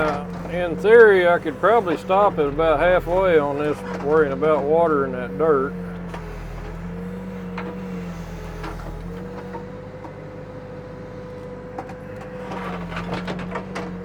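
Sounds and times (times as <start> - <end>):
backhoe engine running: 0.0 - 14.0
hydraulics working: 0.0 - 14.0.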